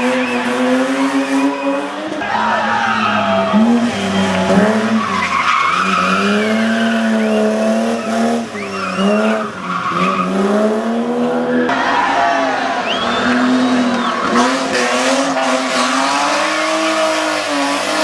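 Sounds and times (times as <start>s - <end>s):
tyre squeal: 0.0s - 10.4s, 11.6s - 18.0s
racing car engine revving: 0.0s - 18.0s.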